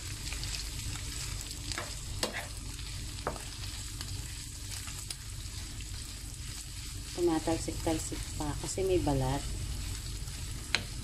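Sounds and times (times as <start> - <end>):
chicken sizzling in a pan: 0.0 - 11.0
wooden spoon scraping a pan: 1.7 - 11.0.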